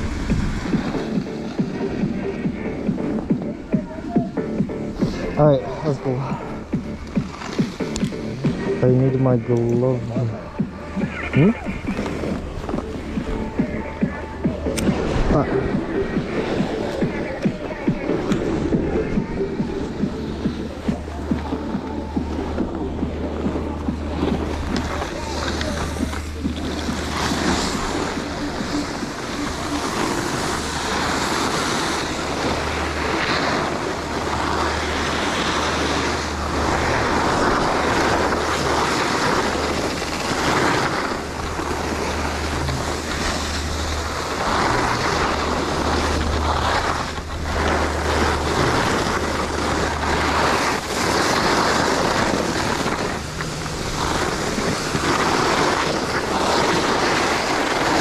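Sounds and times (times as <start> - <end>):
skis scraping over snow: 0.0 - 58.0
wind rumble on microphone: 0.0 - 58.0.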